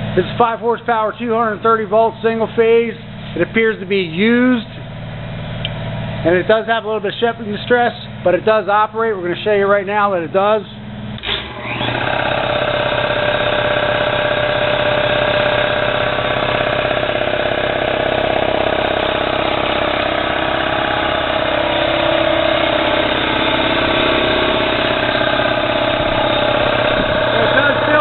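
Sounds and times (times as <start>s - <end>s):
air compressor running: 0.0s - 28.0s.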